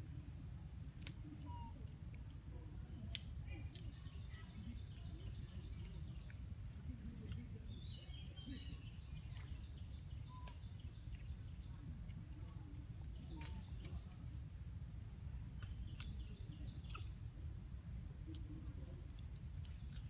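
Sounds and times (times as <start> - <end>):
birds chirping faintly: 0.0 - 20.0
low steady rumble: 0.0 - 20.0.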